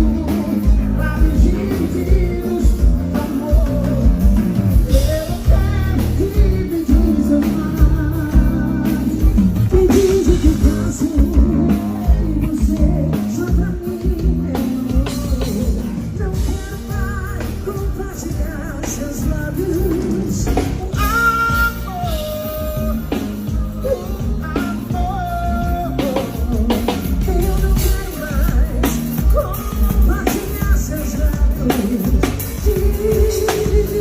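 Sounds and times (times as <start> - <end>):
band music with singer: 0.0 - 34.0
guitar: 0.0 - 34.0
steady drum beat: 0.0 - 34.0.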